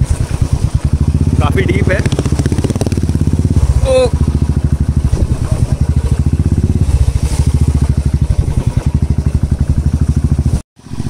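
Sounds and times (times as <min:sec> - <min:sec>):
motorcycle engine thumping: 0:00.0 - 0:11.0.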